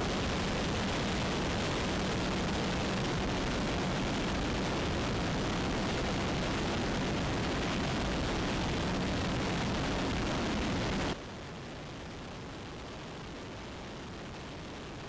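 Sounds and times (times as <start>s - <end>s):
engine and rotor noise: 0.0s - 15.0s
low steady hum: 0.0s - 15.0s
wind rush in aircraft cabin: 0.0s - 15.0s.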